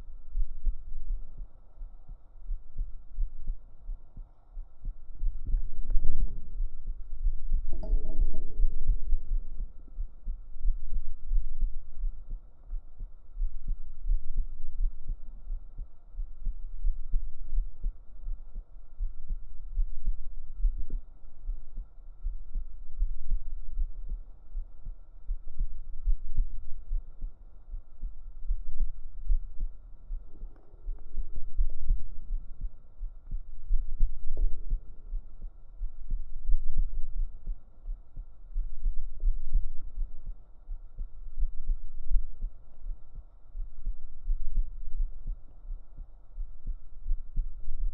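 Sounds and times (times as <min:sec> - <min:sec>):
heartbeat thudding: 0:00.0 - 0:47.9.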